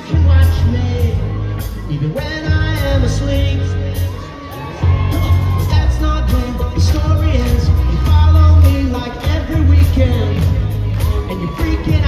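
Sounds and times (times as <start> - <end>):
live pop band playing: 0.0 - 12.0.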